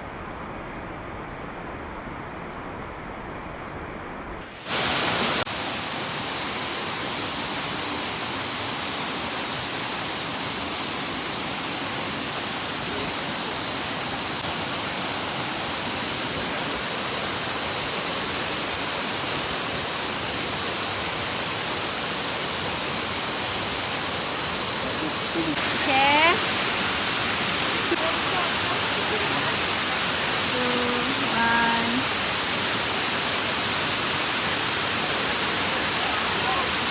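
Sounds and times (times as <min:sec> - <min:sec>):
waterfall rushing: 0:04.6 - 0:36.9.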